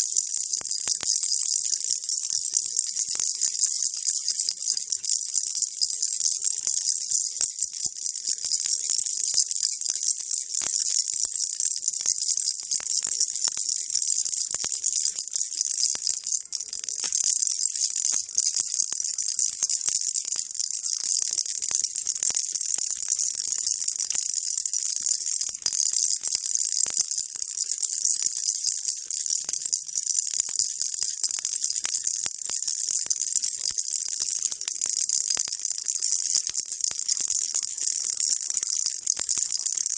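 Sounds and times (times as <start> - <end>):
baby rattle shaken: 0.0 - 8.7, 10.6 - 13.6, 14.2 - 39.9.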